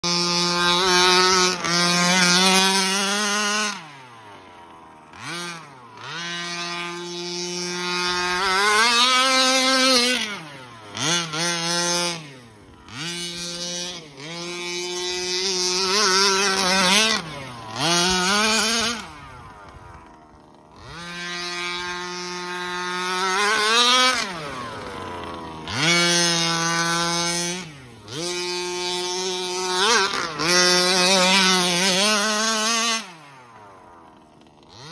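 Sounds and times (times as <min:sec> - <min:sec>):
two-stroke engine revving: 0:00.0 - 0:34.9.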